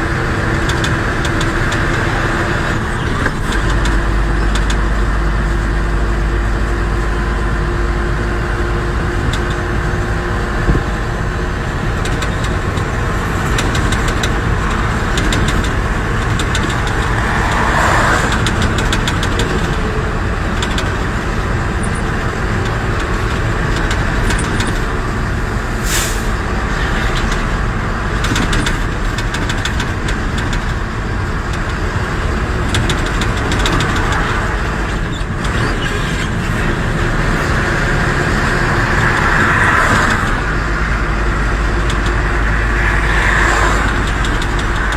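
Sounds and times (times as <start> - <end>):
road noise: 0.0 - 44.9
truck engine running: 0.0 - 44.9.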